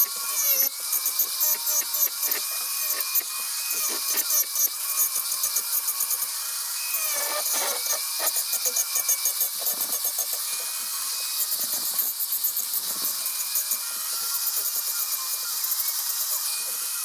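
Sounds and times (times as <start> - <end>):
angle grinder motor whining: 0.0 - 17.0
saw chain rasping into wood: 0.0 - 17.0.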